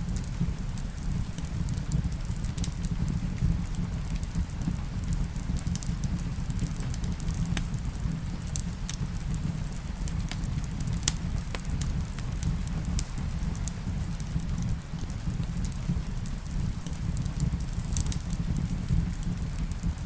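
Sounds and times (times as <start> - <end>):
rain falling: 0.0 - 20.0
wood fire crackling: 0.0 - 20.0.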